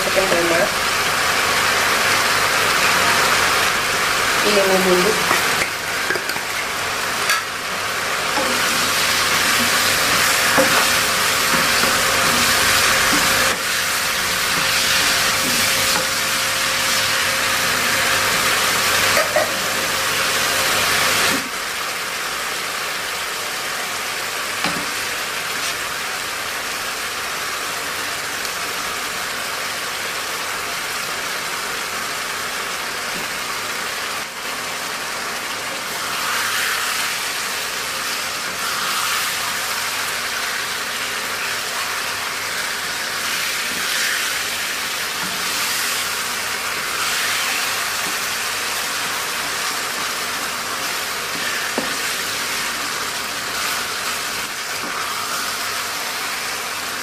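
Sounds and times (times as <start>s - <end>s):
spice paste sizzling in oil: 0.0s - 57.0s.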